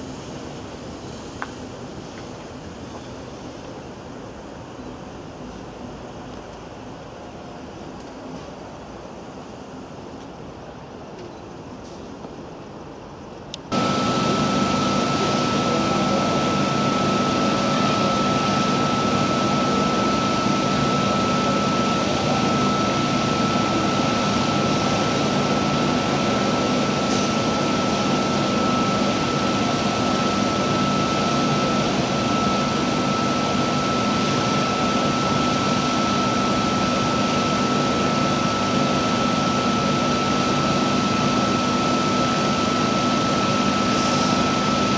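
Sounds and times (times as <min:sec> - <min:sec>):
electric train equipment humming: 0:00.0 - 0:44.9.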